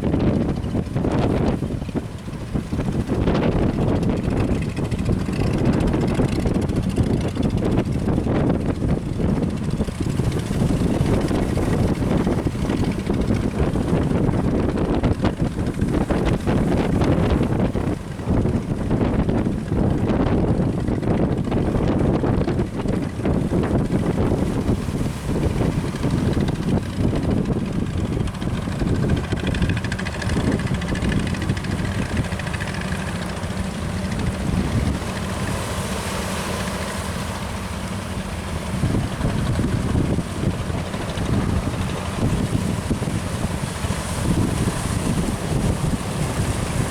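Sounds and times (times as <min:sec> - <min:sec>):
boat engine hum: 0:00.0 - 0:46.9
wind buffeting microphone: 0:00.0 - 0:46.9.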